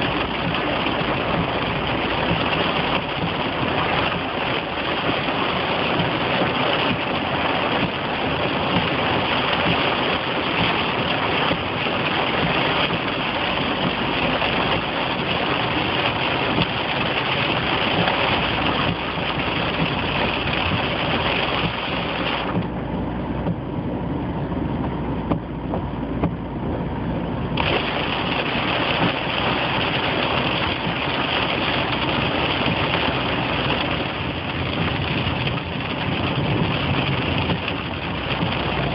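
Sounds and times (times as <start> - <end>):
car engine and road noise: 0.0 - 38.9
heavy rain on car roof: 0.0 - 38.9.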